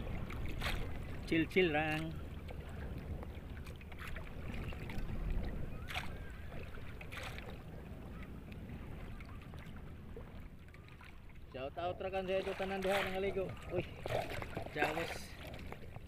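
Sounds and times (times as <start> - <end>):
water lapping: 0.0 - 16.0
wind rumbling on microphone: 0.0 - 16.0.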